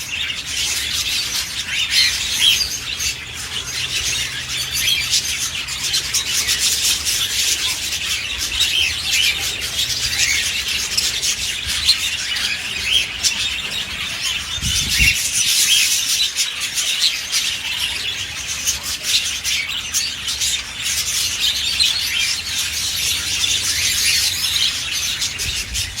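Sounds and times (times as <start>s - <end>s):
budgerigars chattering: 0.0s - 26.0s.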